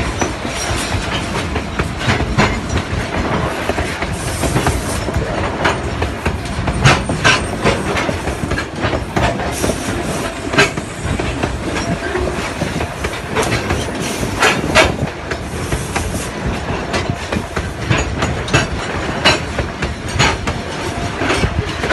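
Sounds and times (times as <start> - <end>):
train wheels rumbling on rail: 0.0 - 21.9
wheels clacking over rail joints: 0.0 - 21.9.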